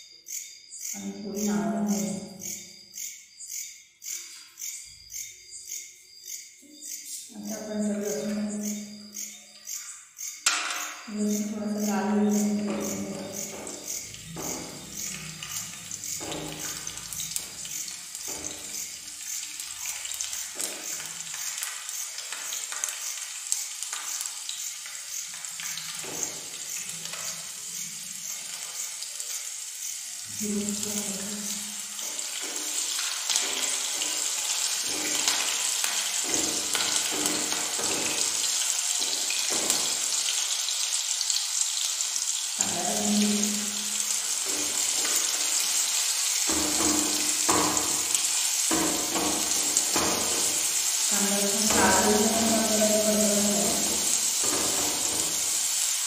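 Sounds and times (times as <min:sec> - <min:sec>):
oil sizzling in frying pan: 0:08.0 - 0:56.0.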